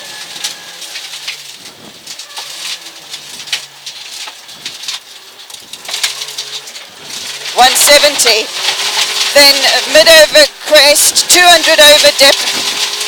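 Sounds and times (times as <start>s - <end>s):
rally car engine: 0.0s - 13.0s.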